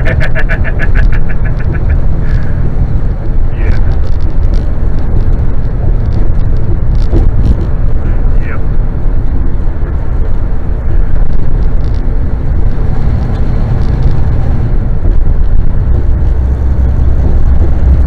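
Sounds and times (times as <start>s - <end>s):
truck cab road rumble: 0.0s - 18.0s.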